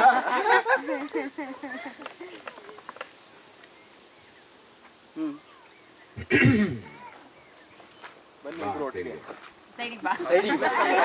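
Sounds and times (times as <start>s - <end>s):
insect chirping: 0.0s - 10.8s.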